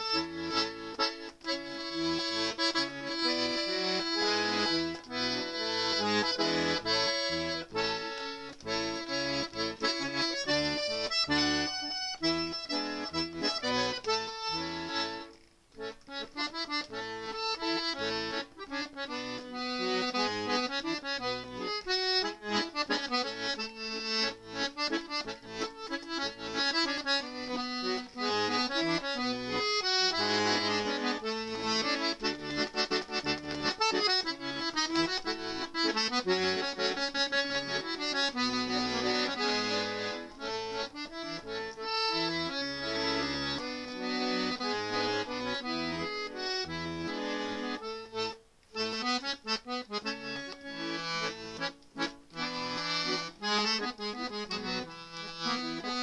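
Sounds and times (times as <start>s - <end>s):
accordion tune: 0.0s - 56.0s.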